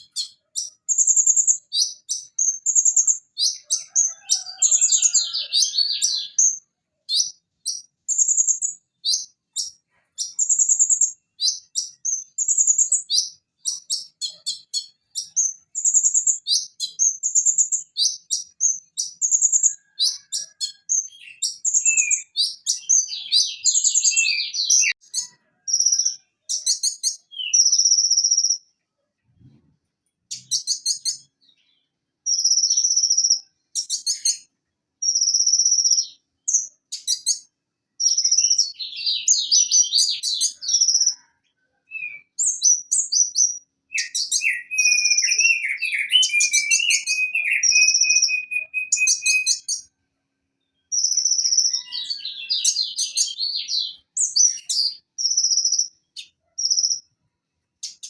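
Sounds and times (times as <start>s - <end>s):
bird singing high trills: 0.0s - 28.6s, 32.3s - 41.2s, 41.9s - 49.9s, 50.8s - 57.1s
lower bird twittering: 0.0s - 28.6s, 30.3s - 31.7s, 32.3s - 41.3s, 41.9s - 49.9s, 50.8s - 57.1s.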